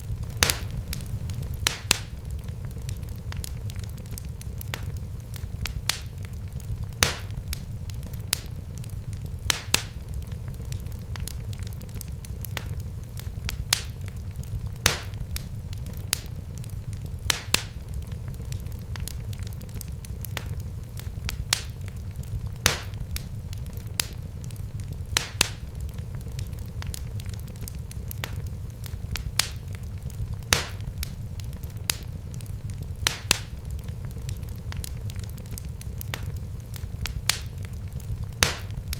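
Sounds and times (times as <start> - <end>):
fire pops and snaps: 0.0 - 38.9
steady low rumble: 0.0 - 38.9
wood fire crackling: 0.0 - 38.9.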